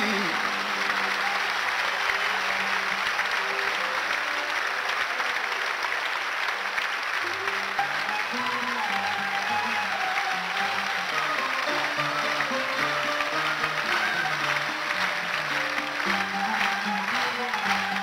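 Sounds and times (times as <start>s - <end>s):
audience applauding: 0.0s - 18.0s
music ensemble soft notes: 0.0s - 18.0s.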